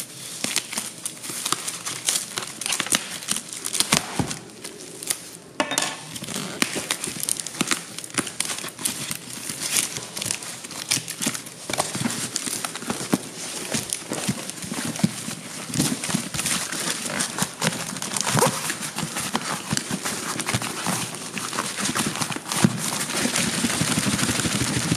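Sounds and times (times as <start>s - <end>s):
packing tape tearing: 0.0s - 5.4s, 6.0s - 24.9s.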